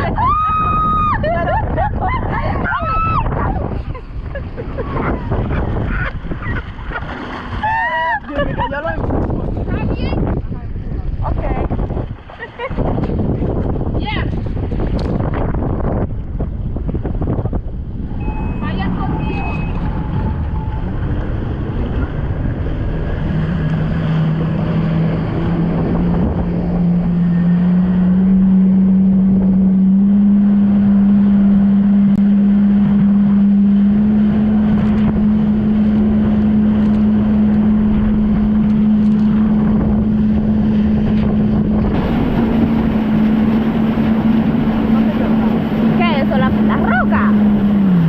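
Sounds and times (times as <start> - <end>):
jet ski engine running: 0.0 - 48.0
water rushing: 0.0 - 48.0
wind buffeting microphone: 0.0 - 48.0.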